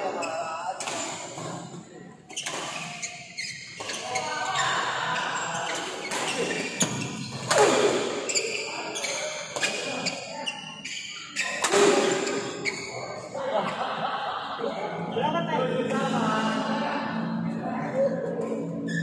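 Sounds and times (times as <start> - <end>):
voices in background: 0.0 - 19.0.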